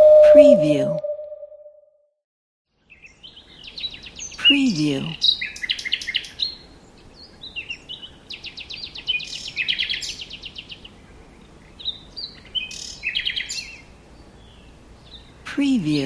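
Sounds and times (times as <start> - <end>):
birds chirping and trilling: 2.8 - 16.0.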